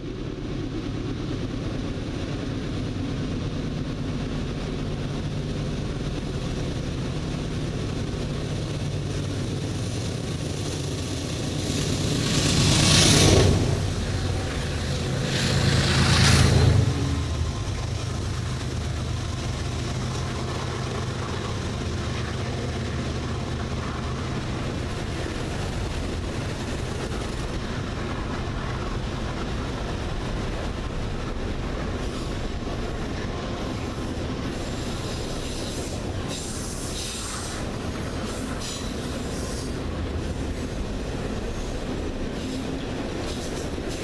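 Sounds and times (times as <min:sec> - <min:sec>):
locomotive low hum: 0:00.0 - 0:44.0
steel wheels rumbling on rail: 0:00.0 - 0:44.0.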